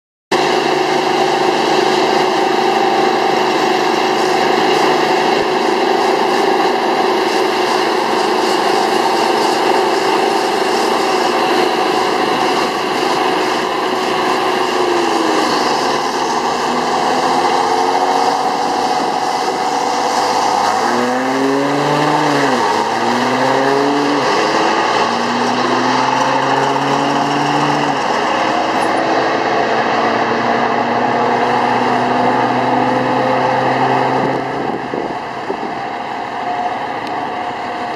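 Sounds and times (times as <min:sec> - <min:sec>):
diesel truck engine accelerating: 0:00.3 - 0:37.9.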